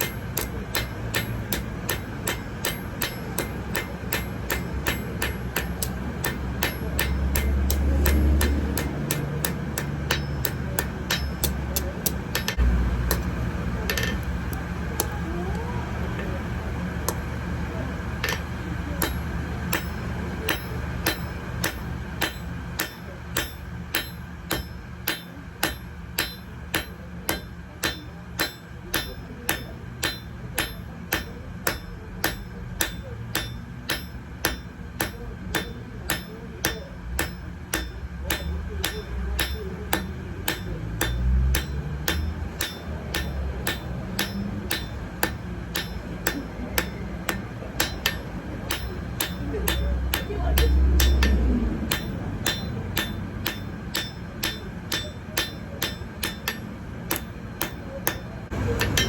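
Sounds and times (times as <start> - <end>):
hammer striking metal on anvil: 0.0 - 59.0.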